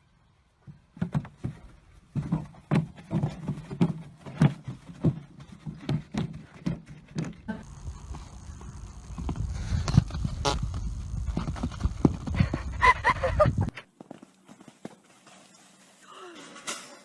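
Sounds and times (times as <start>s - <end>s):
horse hooves clip-clopping: 1.0s - 16.0s.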